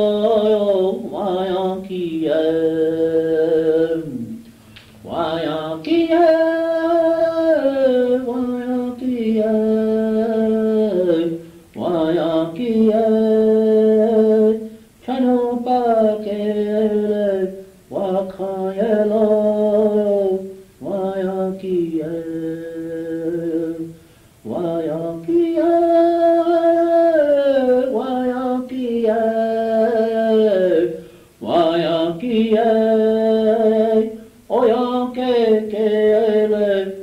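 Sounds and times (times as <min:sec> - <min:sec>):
cassette tape hiss: 0:00.0 - 0:37.0
person singing a chant: 0:00.0 - 0:37.0.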